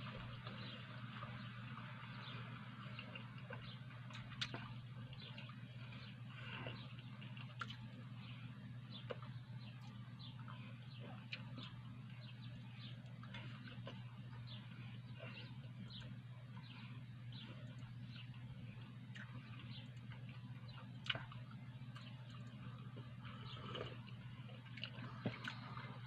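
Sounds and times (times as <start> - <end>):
faint chewing: 0.0 - 26.0
low steady hum: 0.0 - 26.0.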